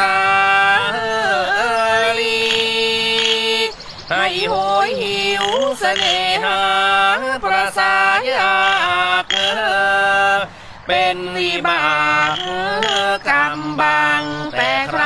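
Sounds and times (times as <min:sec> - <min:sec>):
woman singing long held notes: 0:00.0 - 0:15.0.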